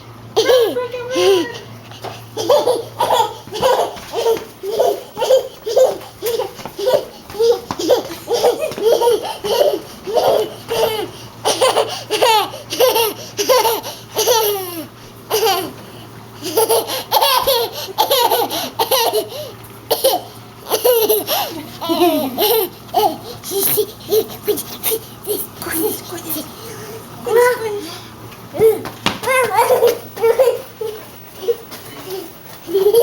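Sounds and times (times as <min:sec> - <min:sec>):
baby laughing: 0:00.4 - 0:15.8, 0:16.4 - 0:27.7, 0:28.6 - 0:33.0.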